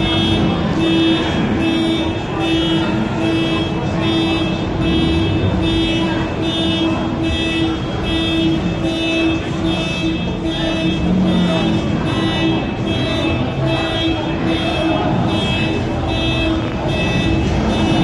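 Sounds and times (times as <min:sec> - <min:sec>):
car alarm pulsing: 0:00.0 - 0:18.0
car engines running: 0:00.0 - 0:18.0.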